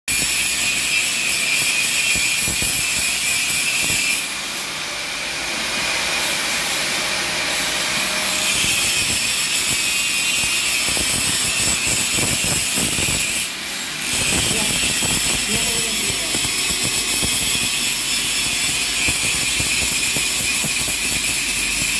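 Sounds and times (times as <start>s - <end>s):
welding arc hissing and whining: 0.1s - 21.9s.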